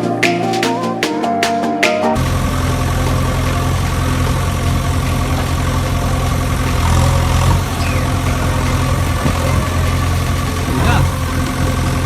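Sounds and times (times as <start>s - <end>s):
engine idling: 2.2s - 12.0s.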